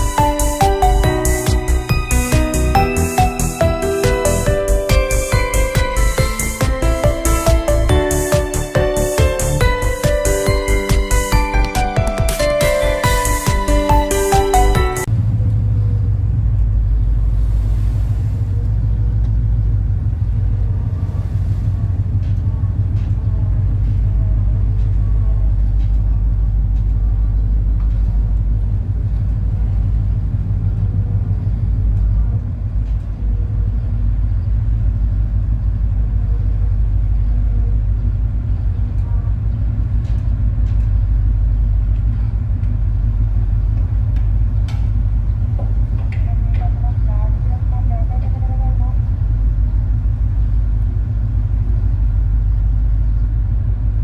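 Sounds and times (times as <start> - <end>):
ferry engines rumbling: 0.0 - 54.0.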